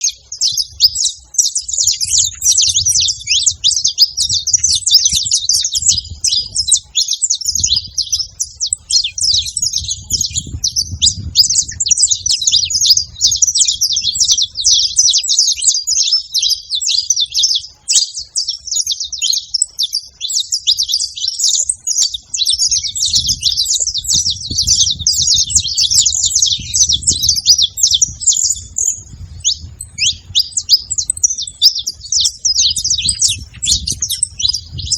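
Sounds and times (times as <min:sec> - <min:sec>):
finches chirping and calling: 0:00.0 - 0:34.9.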